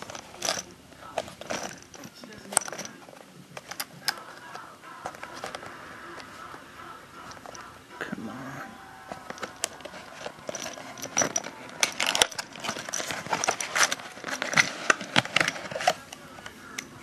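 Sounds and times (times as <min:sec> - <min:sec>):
cardboard rustling and scraping: 0:00.0 - 0:06.6, 0:09.1 - 0:16.5.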